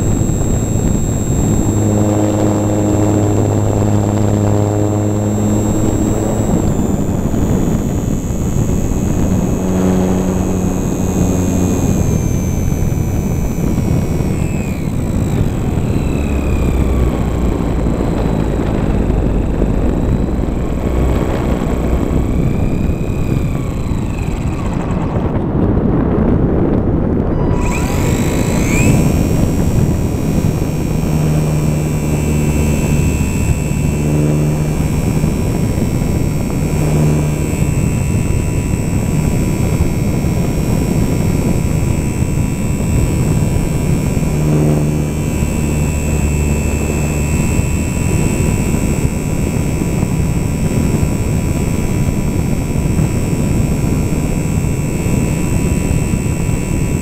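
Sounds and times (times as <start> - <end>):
electric motor high whine: 0.0 - 57.0
low hum: 0.0 - 57.0
wind rushing on microphone: 0.0 - 57.0.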